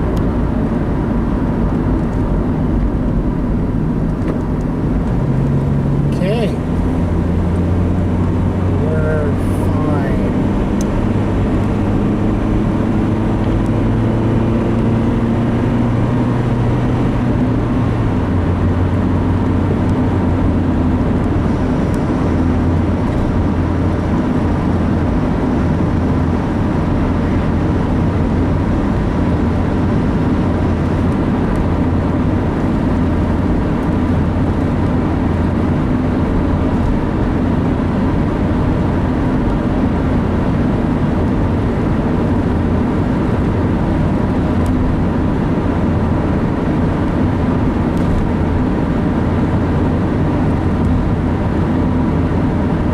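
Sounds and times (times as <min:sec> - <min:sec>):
road noise: 0:00.0 - 0:52.9
vehicle engine hum: 0:00.0 - 0:52.9.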